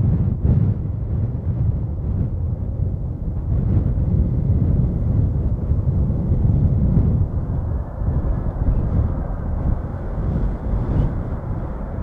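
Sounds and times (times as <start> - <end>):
distant airliner engines: 0.0 - 12.0
wind buffeting microphone: 0.0 - 12.0.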